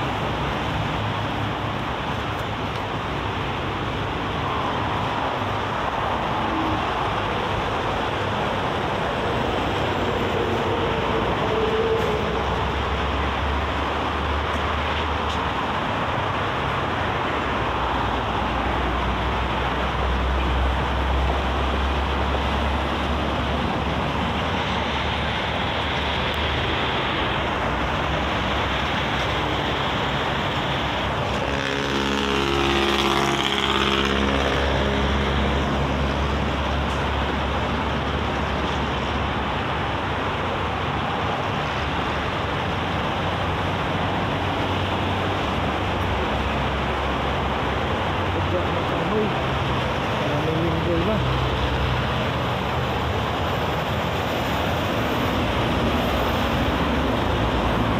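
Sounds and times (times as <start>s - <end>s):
expressway traffic noise: 0.0s - 57.9s.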